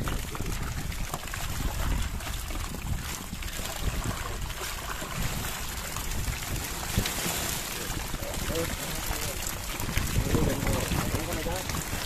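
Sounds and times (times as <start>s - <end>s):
water sloshing around boat: 0.0s - 12.0s
wind buffeting microphone: 0.0s - 12.0s.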